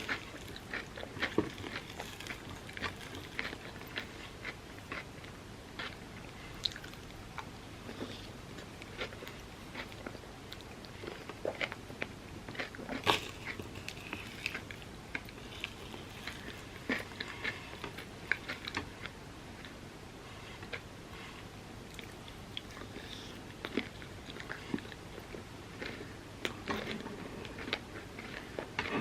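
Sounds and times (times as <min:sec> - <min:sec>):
crunchy chewing: 0:00.0 - 0:19.8, 0:21.9 - 0:29.0.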